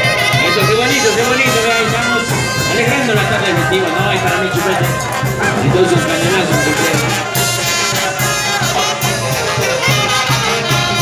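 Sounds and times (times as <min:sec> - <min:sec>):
festive band music with horns: 0:00.0 - 0:11.0.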